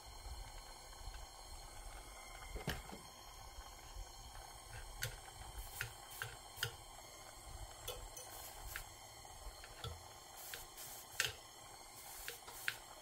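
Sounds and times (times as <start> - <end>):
gas torch hiss: 0.0 - 13.0.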